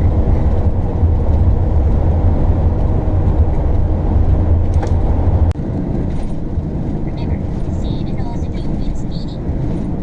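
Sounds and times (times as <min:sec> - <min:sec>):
engine rumble: 0:00.0 - 0:10.0
road noise: 0:00.0 - 0:10.0.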